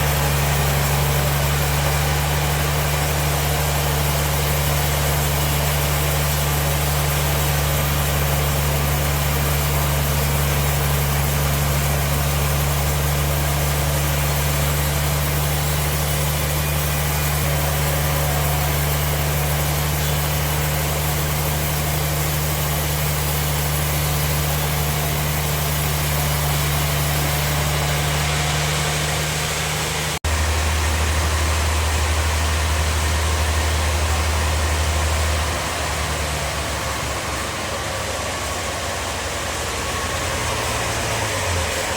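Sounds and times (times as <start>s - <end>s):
sawmill machinery humming: 0.0s - 41.9s.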